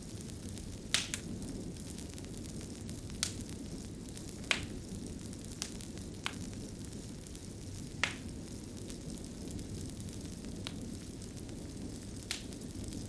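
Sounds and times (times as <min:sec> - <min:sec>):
fire crackling: 0:00.0 - 0:13.0
sharp pops of fire: 0:00.0 - 0:13.0.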